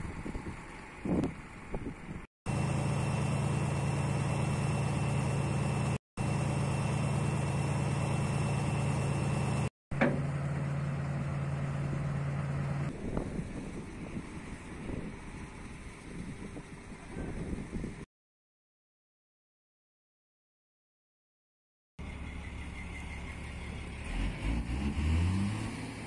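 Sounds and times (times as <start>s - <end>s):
diesel engine idling with whine: 0.0s - 18.0s, 22.0s - 25.2s
outdoor noise: 0.0s - 18.1s, 22.0s - 26.0s.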